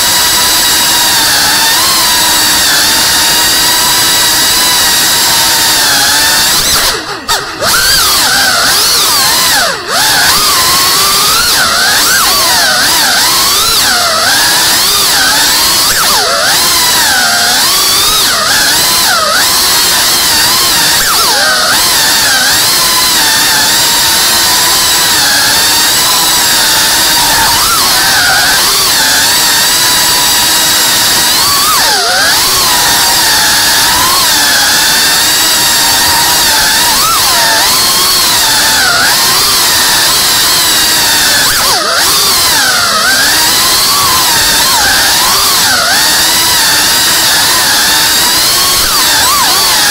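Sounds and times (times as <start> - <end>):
drone propellers whining: 0.0 - 49.9.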